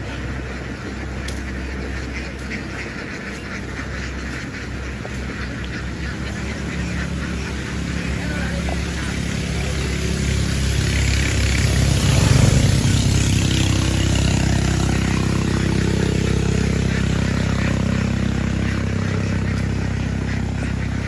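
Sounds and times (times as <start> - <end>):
motor engine running: 0.0 - 21.0.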